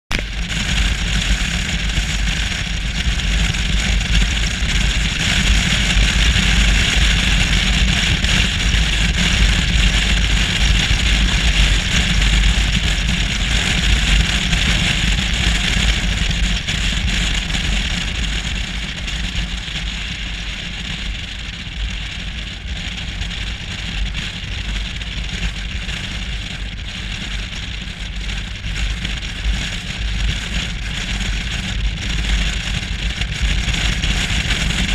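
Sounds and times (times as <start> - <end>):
motorcycle engine and tyre rumble: 0.1 - 34.9
wind rushing over camera: 0.1 - 34.9.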